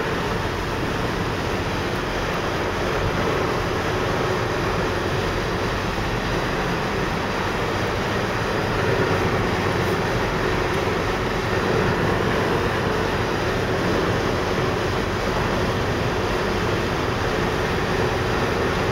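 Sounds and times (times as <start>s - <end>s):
road and wind noise in car: 0.0s - 18.9s.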